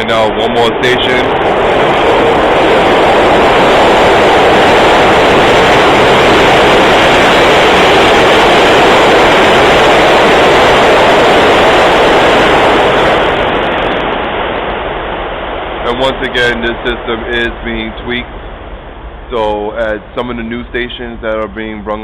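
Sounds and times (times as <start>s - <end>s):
subway train running: 0.0s - 14.4s, 15.8s - 18.3s, 19.3s - 22.0s.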